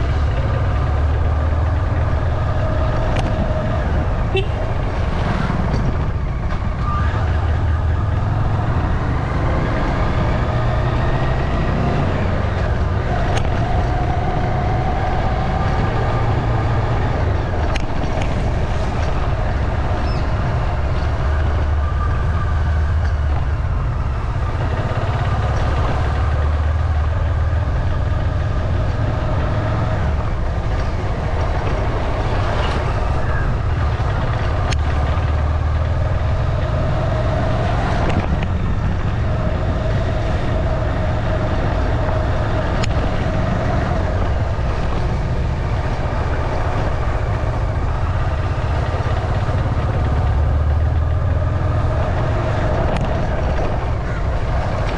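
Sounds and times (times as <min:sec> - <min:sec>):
vehicle running rumble: 0:00.0 - 0:54.9.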